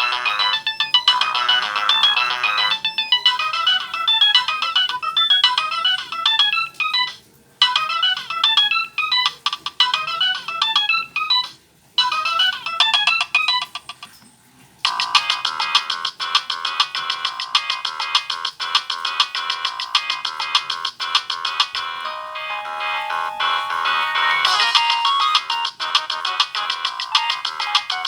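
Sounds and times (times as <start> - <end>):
phone ringtone melody: 0.0 - 13.8, 14.9 - 28.0.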